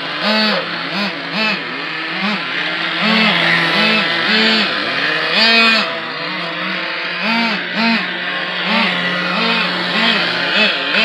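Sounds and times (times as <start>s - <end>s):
rc car engines revving: 0.0s - 11.0s
steady drone: 0.0s - 11.0s.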